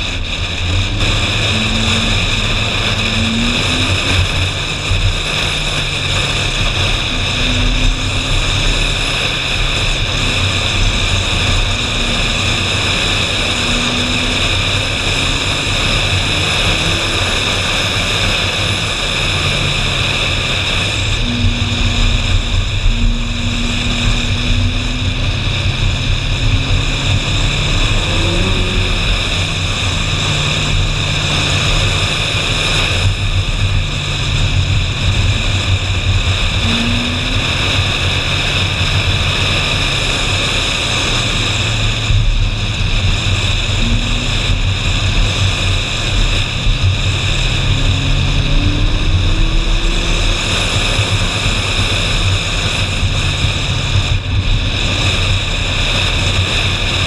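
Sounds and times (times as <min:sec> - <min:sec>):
car engine running: 0:00.0 - 0:57.0
wind and road noise: 0:00.0 - 0:57.0.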